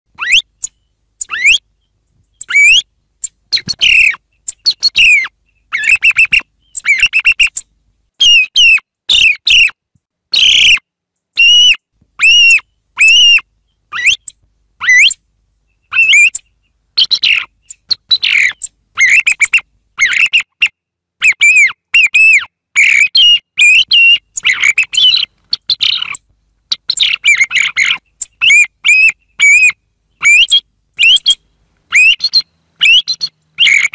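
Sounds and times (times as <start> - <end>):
song thrush singing: 0.1 - 33.9.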